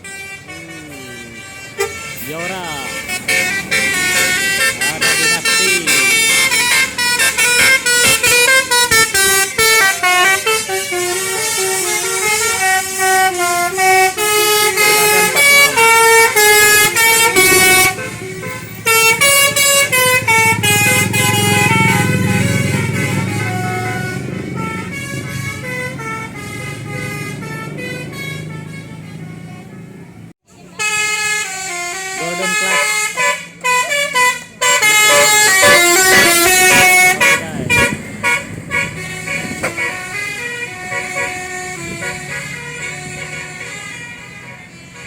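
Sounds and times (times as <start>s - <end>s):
bus engine rumbling: 0.0s - 45.0s
bus horn playing a melody: 0.0s - 45.0s.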